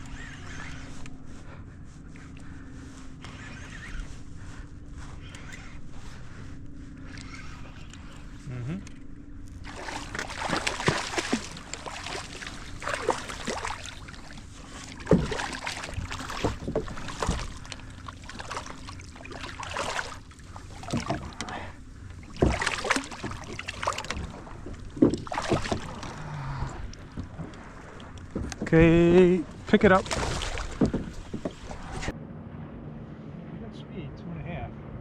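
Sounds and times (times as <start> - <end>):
faint steady hum: 0.0 - 32.1
water sloshing against hull: 0.0 - 32.2.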